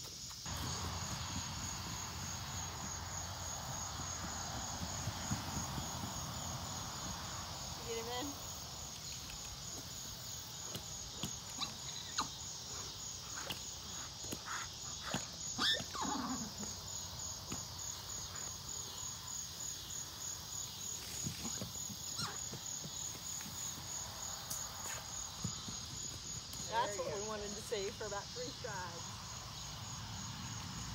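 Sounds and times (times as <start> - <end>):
insects trilling: 0.0 - 30.9.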